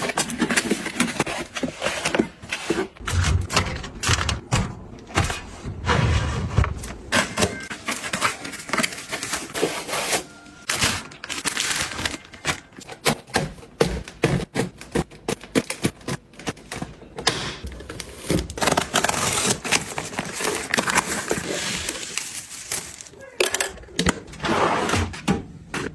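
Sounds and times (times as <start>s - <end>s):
household items clicking and knocking: 0.0s - 9.8s, 10.7s - 25.9s.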